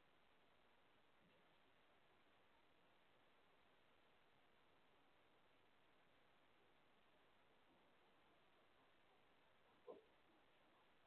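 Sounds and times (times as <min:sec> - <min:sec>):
faint recording hiss: 0:00.0 - 0:11.0.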